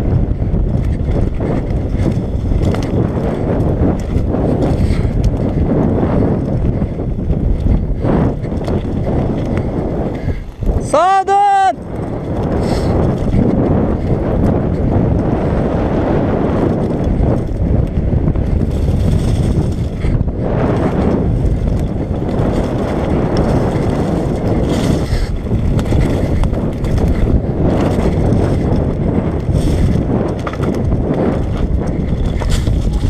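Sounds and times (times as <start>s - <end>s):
bicycle rattling over rough ground: 0.0s - 33.0s
wind rushing over microphone: 0.0s - 33.0s.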